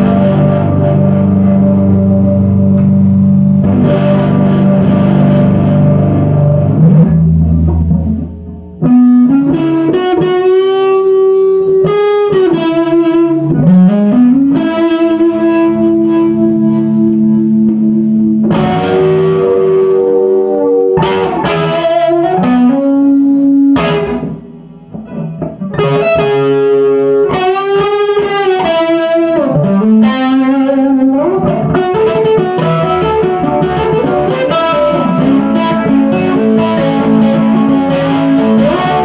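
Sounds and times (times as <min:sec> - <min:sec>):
electric guitar through amplifier: 0:00.0 - 0:39.0.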